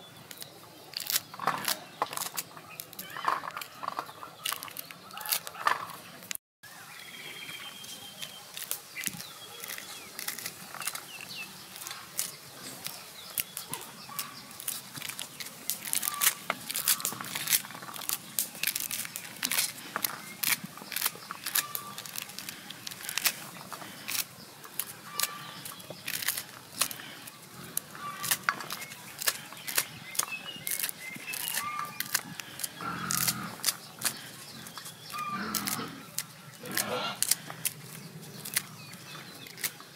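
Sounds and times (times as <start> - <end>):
corn kernels clicking and snapping: 0.3 - 6.4, 8.1 - 39.9.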